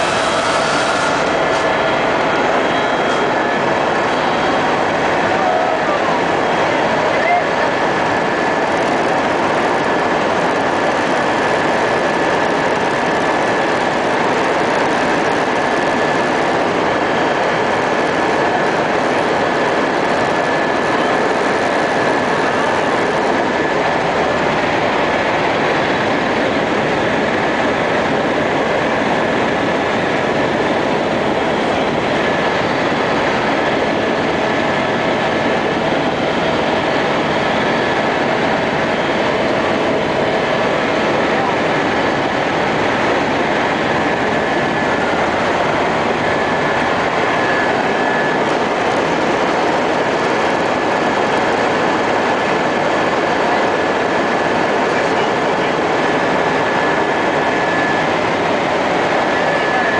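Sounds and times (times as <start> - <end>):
helicopter engine and rotor noise: 0.0 - 59.9
high-pitched whine: 0.0 - 59.9.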